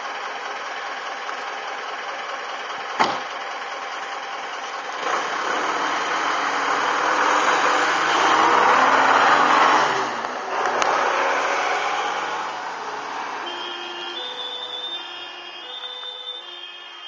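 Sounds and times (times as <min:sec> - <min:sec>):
fire engine diesel engine driving past: 0:00.0 - 0:17.0.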